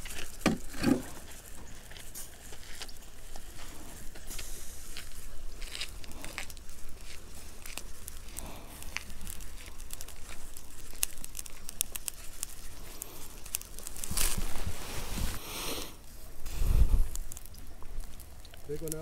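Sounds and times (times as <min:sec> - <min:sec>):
fish frying with pops: 0:00.0 - 0:19.0
rustling: 0:00.0 - 0:19.0.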